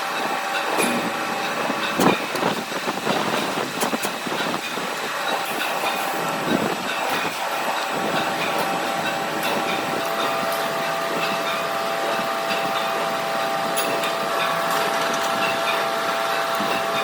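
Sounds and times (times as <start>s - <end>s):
machinery humming and whining: 0.0s - 17.0s.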